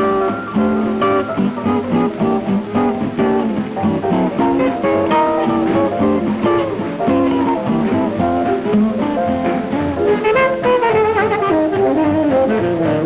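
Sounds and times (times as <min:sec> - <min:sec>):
guitar solo plucked notes: 0:00.0 - 0:13.0
jazz band playing: 0:00.0 - 0:13.0.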